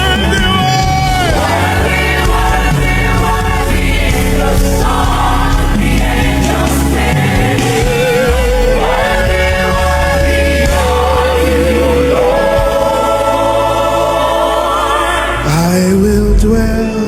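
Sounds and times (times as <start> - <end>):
band accompaniment: 0.0 - 17.0
choir singing: 0.0 - 17.0.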